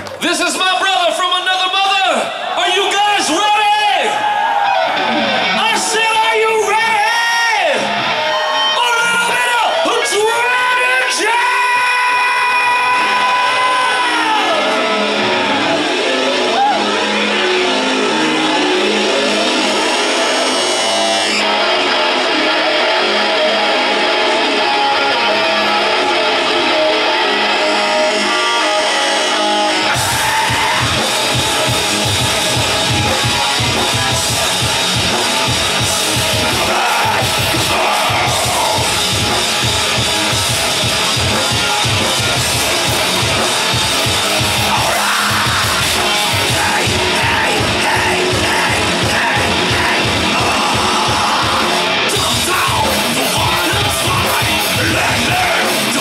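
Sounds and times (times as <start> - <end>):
distorted guitars: 0.0 - 56.0
live heavy metal band: 0.0 - 56.0.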